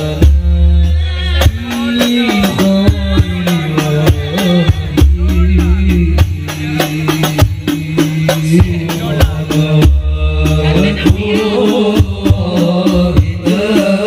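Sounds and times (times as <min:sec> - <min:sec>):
deep drum strokes: 0:00.0 - 0:14.0
frame drums beating: 0:00.0 - 0:14.0
man singing: 0:00.0 - 0:14.0.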